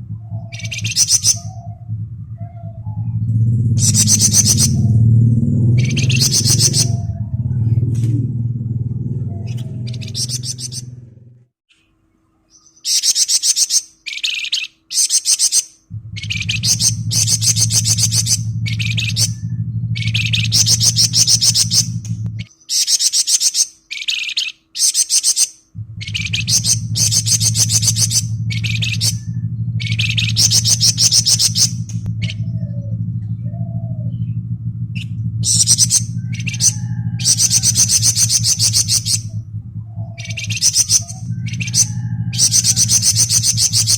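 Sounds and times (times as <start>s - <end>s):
songbird trilling: 0.0s - 11.3s, 12.5s - 43.9s
low steady hum: 0.0s - 15.0s, 15.6s - 22.6s, 25.6s - 43.9s.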